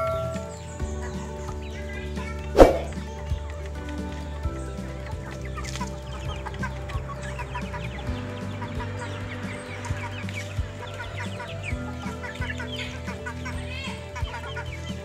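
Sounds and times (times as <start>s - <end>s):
chickens clucking: 0.0s - 15.0s
music with bass and beat: 0.0s - 15.0s.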